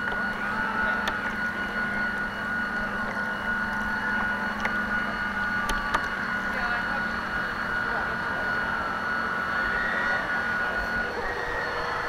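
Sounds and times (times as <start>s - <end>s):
model boat motor whining: 0.0s - 12.0s.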